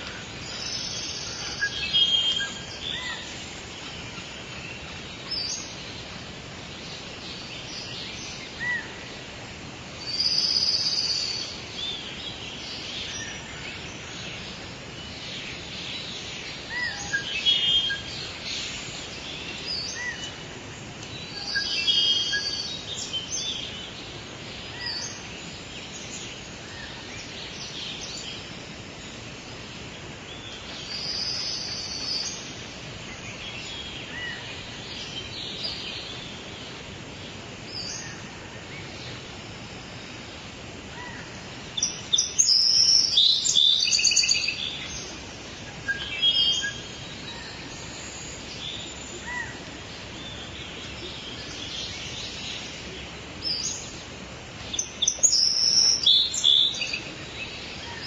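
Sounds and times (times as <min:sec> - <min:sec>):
birds singing and chirping: 0:00.0 - 0:09.4, 0:10.0 - 0:58.0
background hiss: 0:00.0 - 0:58.0.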